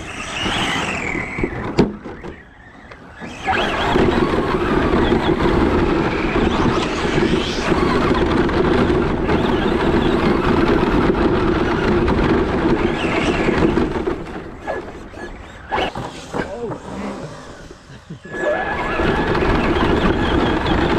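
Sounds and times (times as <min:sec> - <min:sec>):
radio-controlled truck running: 0:00.0 - 0:20.9.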